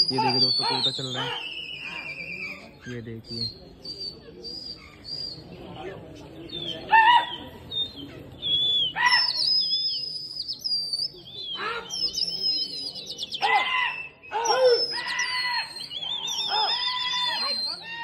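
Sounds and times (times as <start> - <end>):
rising and falling bird calls: 0.0 - 5.6, 6.4 - 18.0
birds chirping: 0.0 - 18.0.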